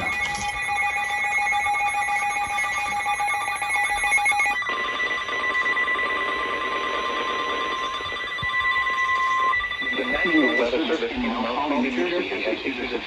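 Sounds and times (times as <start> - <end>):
two-tone electronic alarm: 0.0 - 13.0.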